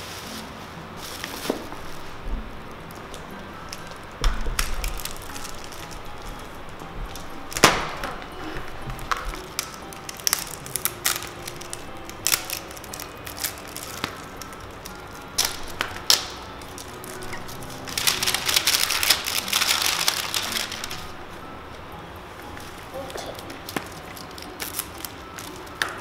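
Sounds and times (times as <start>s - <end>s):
plastic wrapping crinkling and tearing: 0.0s - 21.8s, 22.4s - 26.0s.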